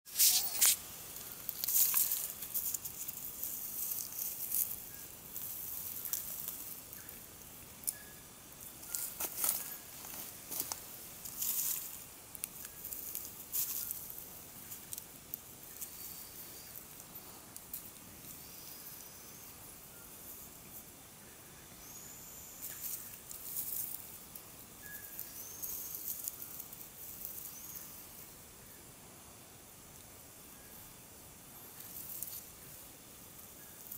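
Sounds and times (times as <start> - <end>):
dry leaves and twigs rustling: 0.1 - 21.0, 21.6 - 28.4, 31.4 - 33.9.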